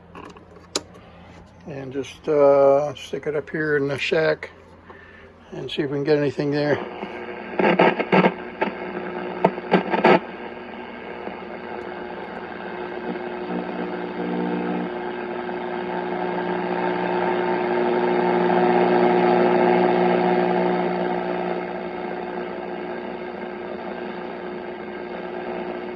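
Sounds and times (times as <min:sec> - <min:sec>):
radio static crackles and pops: 0:00.0 - 0:25.9
radio static hiss and hum: 0:00.0 - 0:25.9.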